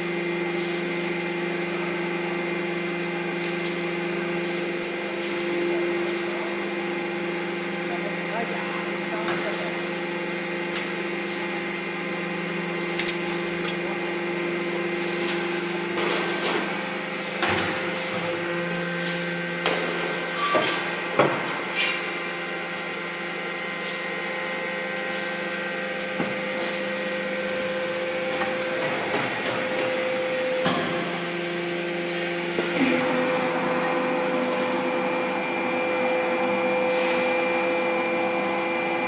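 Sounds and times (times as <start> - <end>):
hydraulic baler humming: 0.0 - 39.0.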